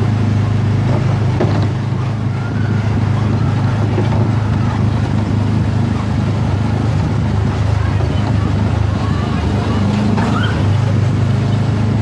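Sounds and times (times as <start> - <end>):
ride car engine droning: 0.0 - 12.0.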